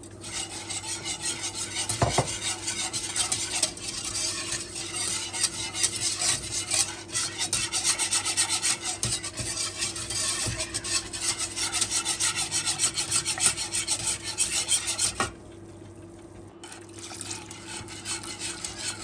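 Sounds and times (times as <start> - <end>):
utensil scraping cookware: 0.2 - 15.4, 16.6 - 19.0.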